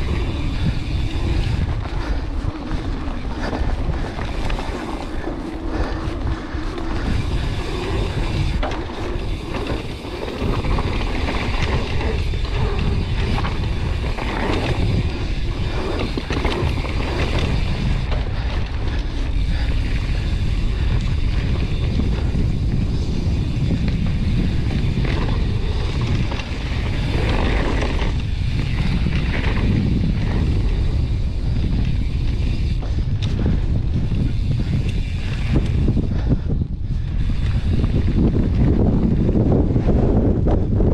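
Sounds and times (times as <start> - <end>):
mountain bike rolling on rough trail: 0.0 - 40.9
wind buffeting microphone: 0.0 - 40.9.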